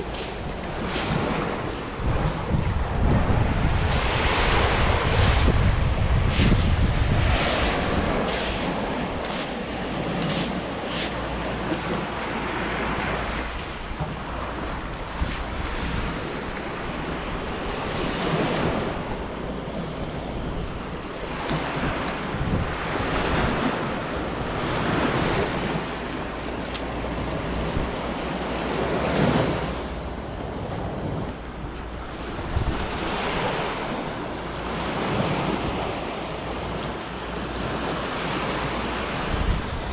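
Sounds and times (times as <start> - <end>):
waves washing onto beach: 0.0 - 39.9
wind rumbling on microphone: 0.0 - 39.9.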